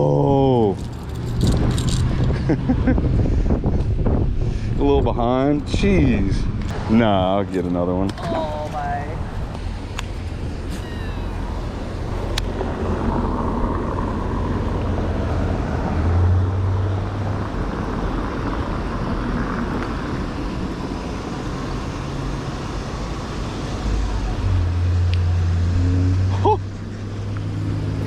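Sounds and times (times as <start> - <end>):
motor traffic rumble: 0.0 - 28.0.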